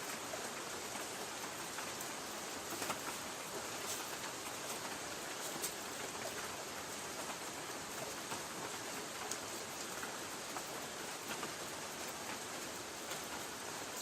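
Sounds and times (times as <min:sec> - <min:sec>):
rain on a tin roof: 0:00.0 - 0:14.0.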